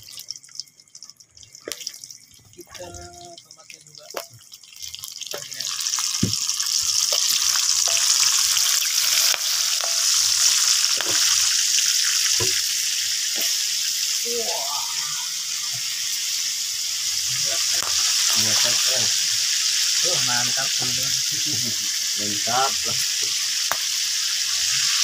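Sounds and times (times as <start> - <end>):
tomatoes sizzling in hot oil: 0.0 - 25.0.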